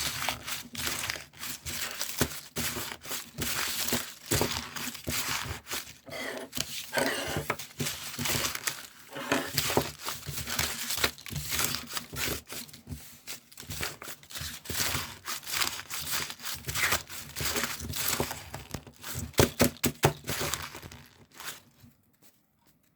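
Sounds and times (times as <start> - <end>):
material crinkling and rustling: 0.0 - 22.9.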